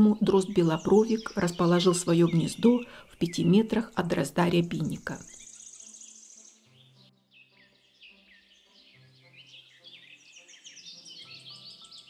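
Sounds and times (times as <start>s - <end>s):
small birds calling: 0.0s - 12.0s.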